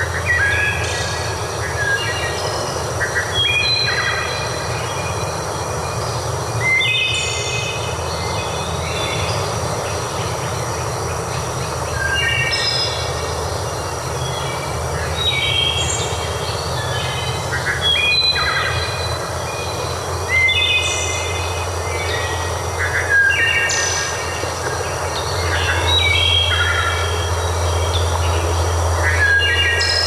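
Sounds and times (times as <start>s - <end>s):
low hum: 0.0s - 30.0s
rushing background noise: 0.0s - 30.0s
songbirds singing: 0.0s - 30.0s.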